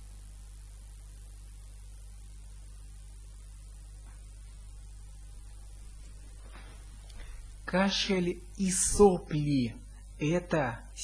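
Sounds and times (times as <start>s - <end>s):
background hiss: 0.0s - 11.0s
electrical mains hum: 0.0s - 11.0s.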